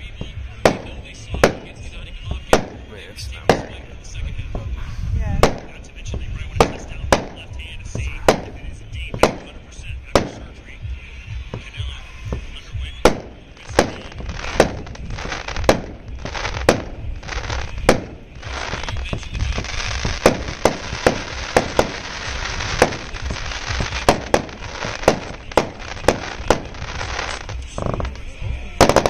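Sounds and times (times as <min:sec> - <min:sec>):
fireworks bangs: 0:00.0 - 0:29.0
fireworks hissing: 0:00.0 - 0:29.0.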